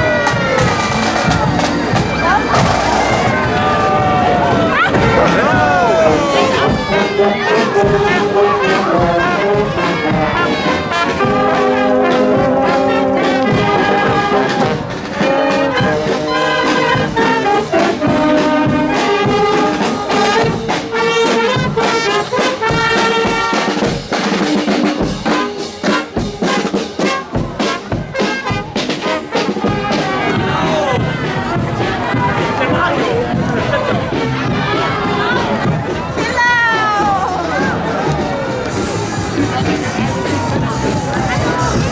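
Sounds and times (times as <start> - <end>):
drum beating time: 0.0 - 41.9
marching band playing: 0.0 - 41.9.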